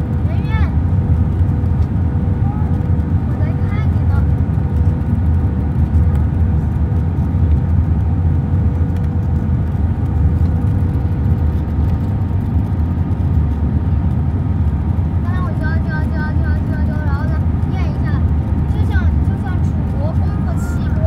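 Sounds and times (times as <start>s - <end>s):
airplane cabin engine roar: 0.0s - 21.0s.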